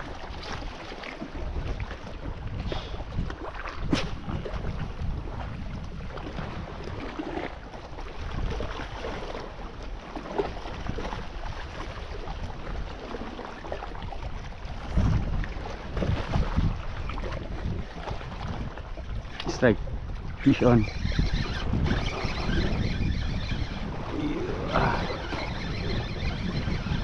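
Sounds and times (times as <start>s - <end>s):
sea wash: 0.0s - 27.0s
wind buffeting microphone: 0.0s - 27.0s.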